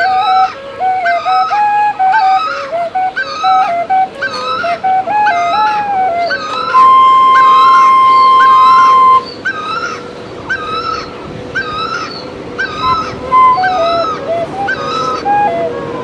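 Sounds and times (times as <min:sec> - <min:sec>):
held drone note: 0:00.0 - 0:09.4, 0:11.7 - 0:16.0
flute melody: 0:00.0 - 0:16.0.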